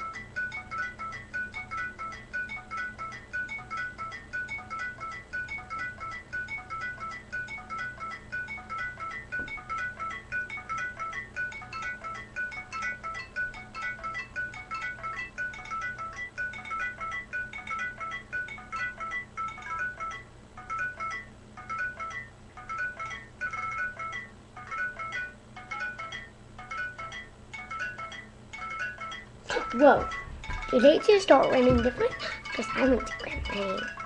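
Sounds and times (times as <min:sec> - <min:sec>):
rapid high pattering plinks: 0:00.0 - 0:34.0
steady low hum: 0:00.0 - 0:34.0.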